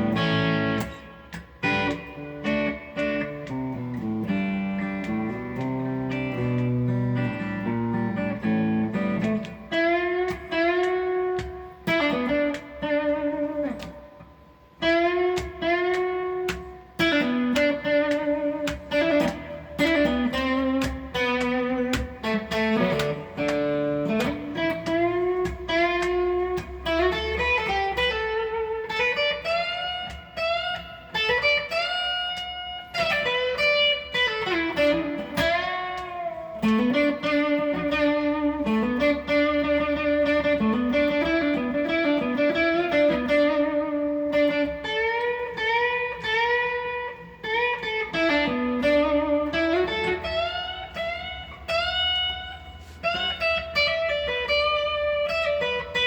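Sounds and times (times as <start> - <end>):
guitar lead melody with bends: 0.0 - 56.0.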